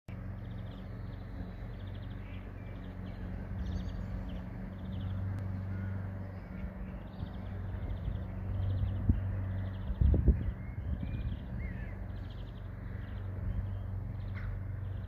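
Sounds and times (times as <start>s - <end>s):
birds rattling calls: 0.1s - 15.0s.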